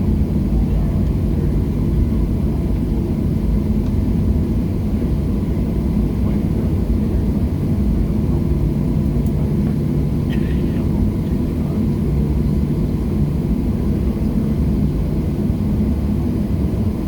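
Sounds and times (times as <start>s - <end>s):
jet engines idling low rumble: 0.0s - 17.0s.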